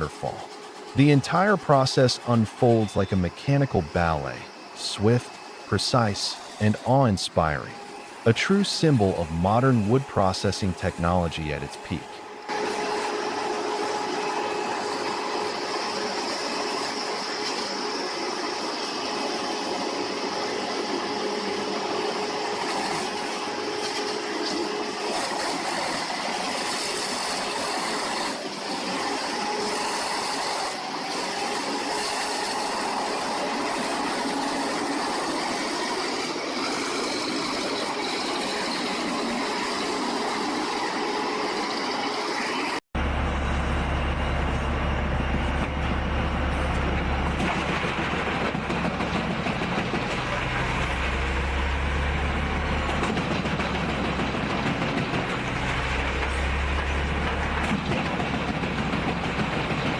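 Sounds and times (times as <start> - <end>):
machine whine: 0.0 - 59.9
wood chipper running: 0.0 - 59.9.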